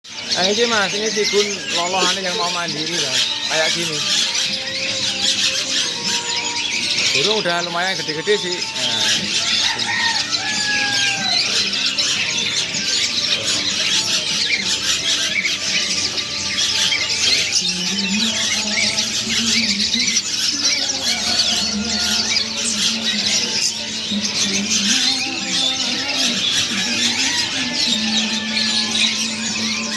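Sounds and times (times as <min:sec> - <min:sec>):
young birds chirping and squealing: 0:00.0 - 0:29.9.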